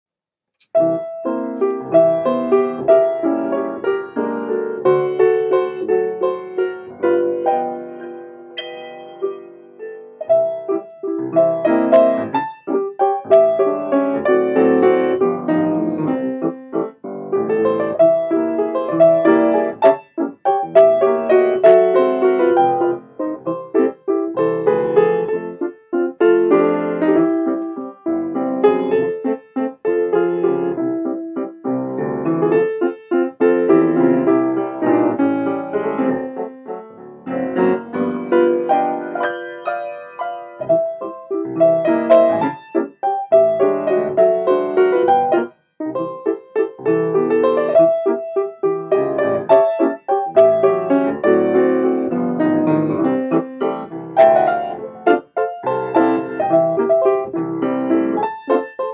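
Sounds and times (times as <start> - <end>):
piano music: 0.6 - 58.9.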